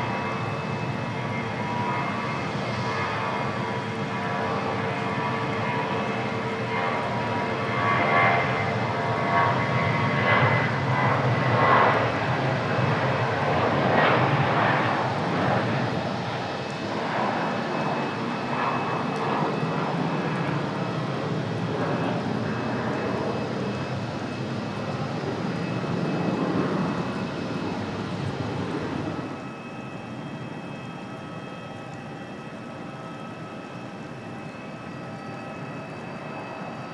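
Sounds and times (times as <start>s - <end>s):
jet engines roaring and whining: 0.0s - 36.9s.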